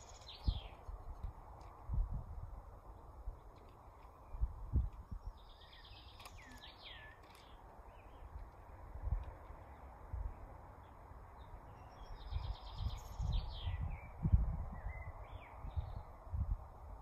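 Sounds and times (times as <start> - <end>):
small birds chirping: 0.0 - 1.8, 3.0 - 16.3.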